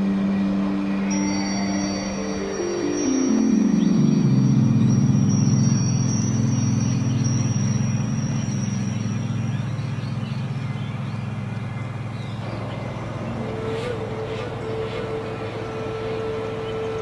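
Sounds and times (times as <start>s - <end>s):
low mechanical drone: 0.0s - 17.0s
steady higher tone: 0.0s - 17.0s.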